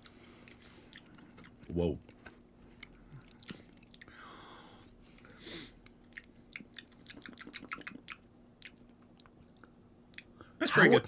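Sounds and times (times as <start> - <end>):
wet chewing clicks and smacks: 0.0 - 4.2, 5.2 - 10.3.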